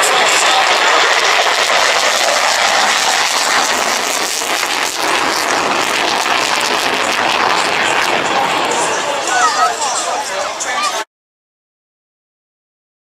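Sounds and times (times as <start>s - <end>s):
aircraft flying overhead: 0.0s - 11.1s.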